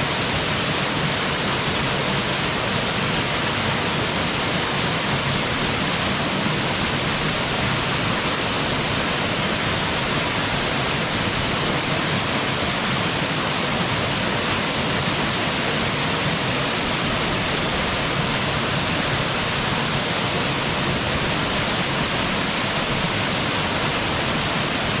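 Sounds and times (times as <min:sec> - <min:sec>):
waterfall pouring: 0:00.0 - 0:25.0.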